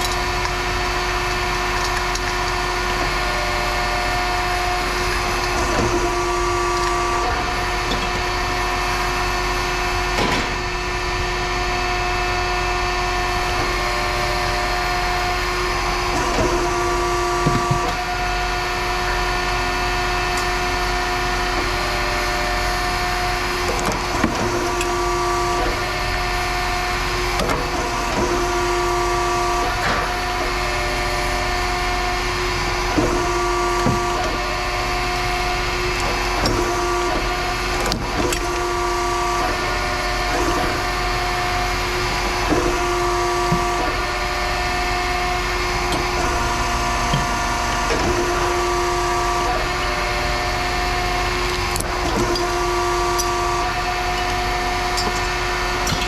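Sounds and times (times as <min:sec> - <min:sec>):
machine droning: 0:00.0 - 0:56.0.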